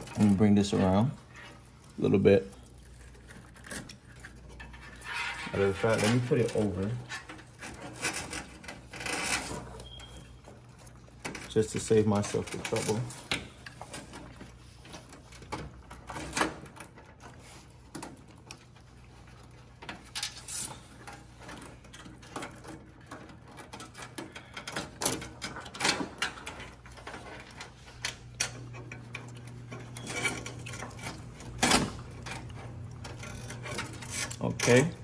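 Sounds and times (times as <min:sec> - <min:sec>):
cables clicking and rustling: 0:00.0 - 0:35.0.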